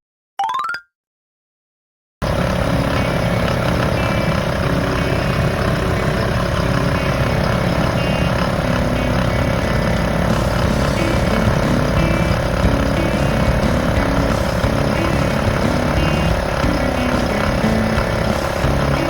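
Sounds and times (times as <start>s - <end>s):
air compressor buzzing and rattling: 2.2s - 19.0s.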